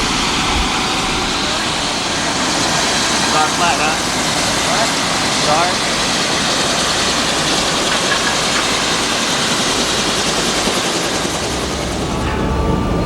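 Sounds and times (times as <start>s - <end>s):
helicopter cabin noise: 0.0s - 13.0s.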